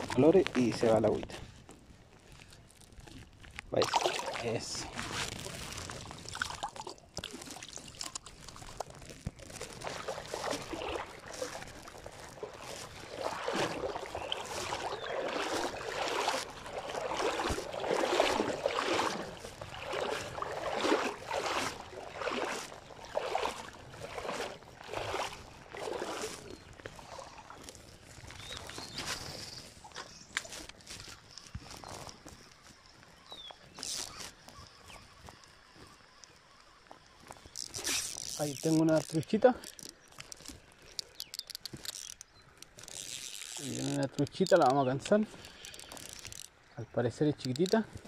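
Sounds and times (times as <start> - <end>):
river water trickling: 0.0 - 48.0
water sloshing in strokes: 0.0 - 48.0.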